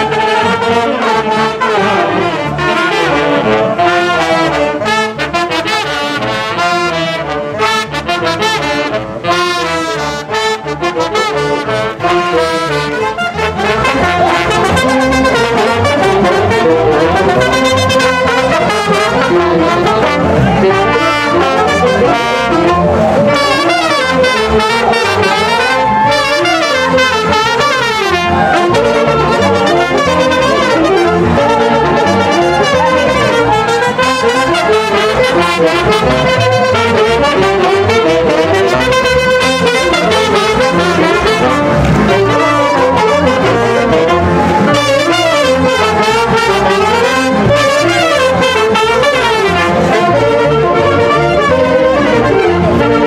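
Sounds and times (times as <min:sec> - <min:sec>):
brass band playing dance music: 0:00.0 - 0:53.0.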